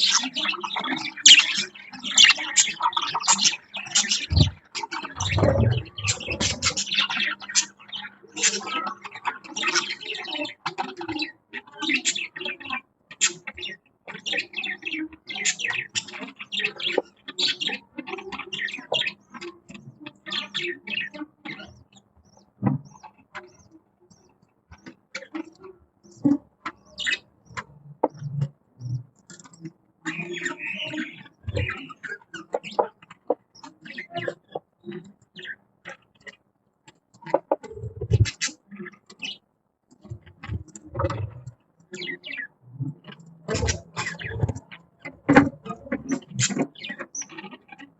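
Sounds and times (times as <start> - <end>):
budgies chirping and chattering: 0.0 - 47.9.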